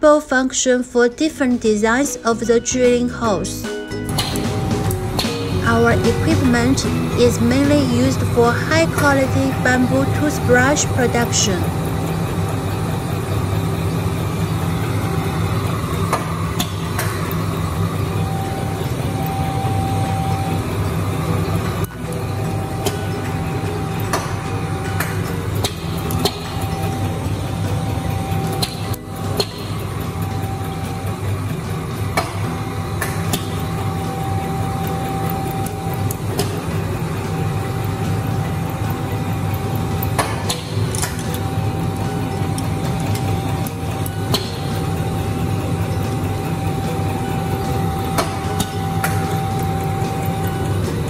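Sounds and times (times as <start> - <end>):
thin whine: 1.4 - 51.0
drilling machine motor hum: 4.0 - 51.0.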